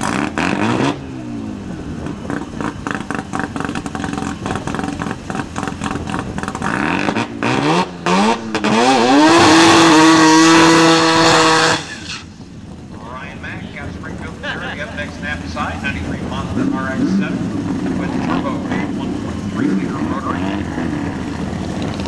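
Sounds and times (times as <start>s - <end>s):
rotary engine revving: 0.0s - 12.4s, 15.0s - 22.0s.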